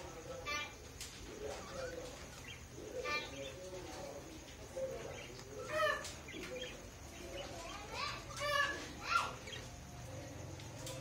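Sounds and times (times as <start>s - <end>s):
parakeets chattering calls: 0.2s - 10.0s.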